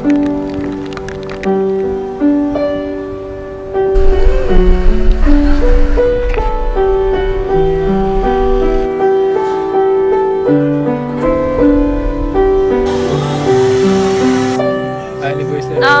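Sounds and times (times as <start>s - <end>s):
piano held notes: 2.8s - 16.0s.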